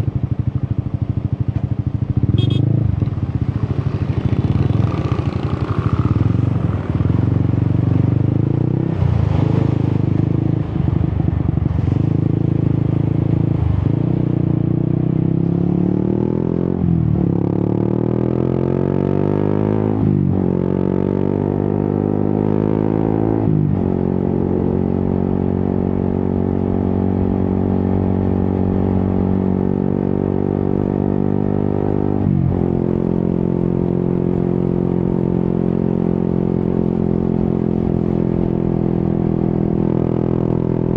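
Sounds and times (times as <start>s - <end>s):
motorcycle engine revving through gears: 0.8s - 10.8s, 11.4s - 40.9s.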